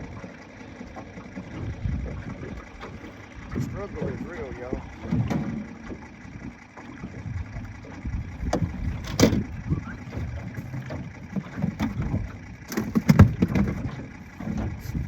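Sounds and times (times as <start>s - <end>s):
waves slapping boat hull: 0.0s - 15.0s.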